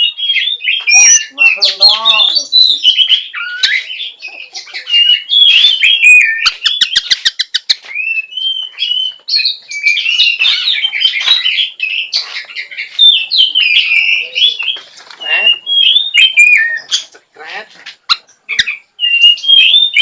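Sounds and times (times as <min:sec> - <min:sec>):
magpie-robin singing: 0:00.0 - 0:20.0.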